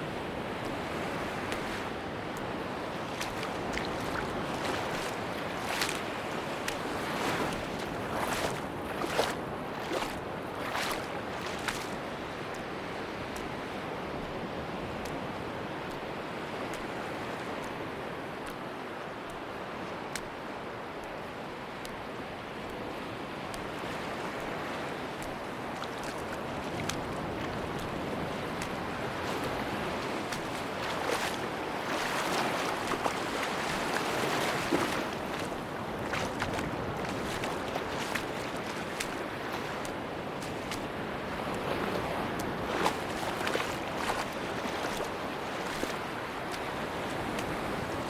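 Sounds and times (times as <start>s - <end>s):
waves washing on a beach: 0.0s - 48.0s.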